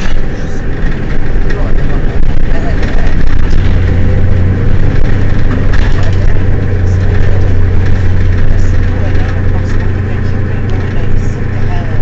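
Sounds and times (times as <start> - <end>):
bus engine droning: 0.0 - 12.0
light rattles: 0.0 - 12.0.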